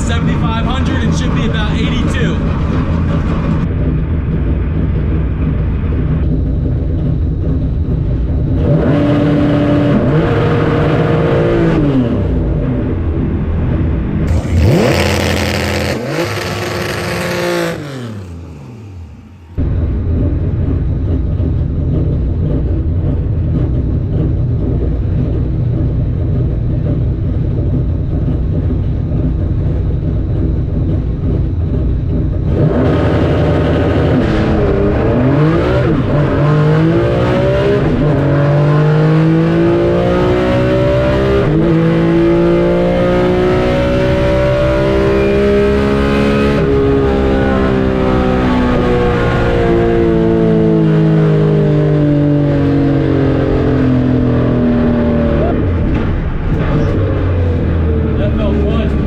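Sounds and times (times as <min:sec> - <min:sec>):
car engine revving and accelerating: 0:00.0 - 0:59.0.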